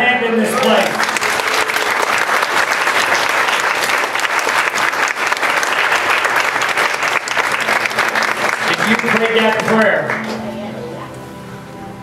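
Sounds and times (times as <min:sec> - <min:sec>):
crowd applauding: 0:00.4 - 0:10.4.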